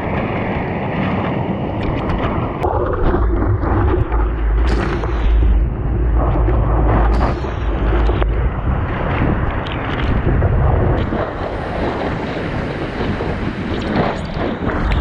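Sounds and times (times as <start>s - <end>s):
water rushing along board: 0.0s - 15.0s
wind buffeting microphone: 0.0s - 15.0s.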